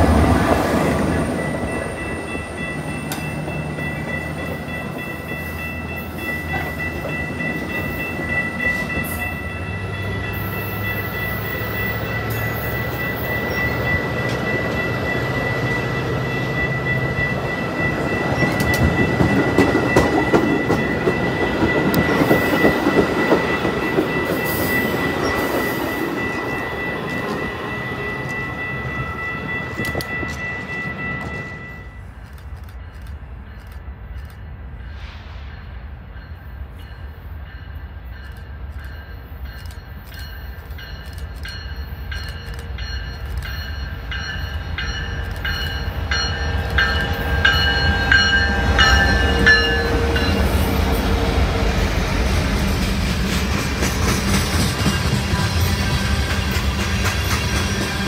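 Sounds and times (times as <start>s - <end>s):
rail joint clicks: 0.0s - 58.0s
train wheels rumbling on rail: 0.0s - 58.0s.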